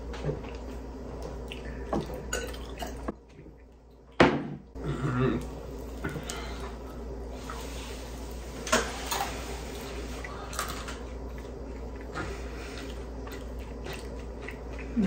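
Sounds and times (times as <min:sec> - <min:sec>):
steady low hum: 0:00.0 - 0:15.0
people chewing: 0:00.1 - 0:04.1, 0:04.8 - 0:08.2, 0:09.1 - 0:15.0.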